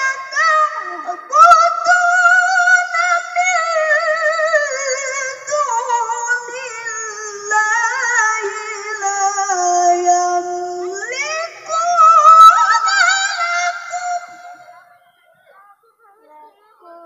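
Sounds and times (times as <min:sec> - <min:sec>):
woman reciting melodically: 0:00.0 - 0:17.0.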